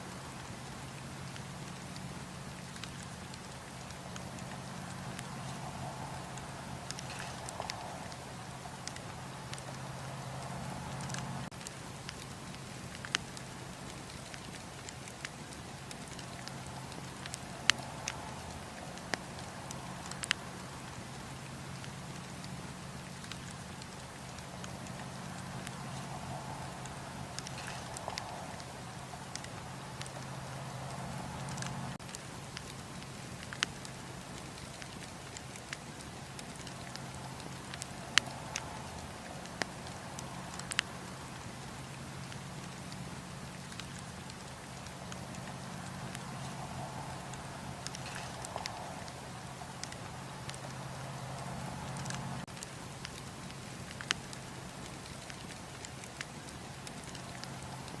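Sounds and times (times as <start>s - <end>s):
campfire crackling and popping: 0.0s - 58.0s
low background hiss: 0.0s - 58.0s.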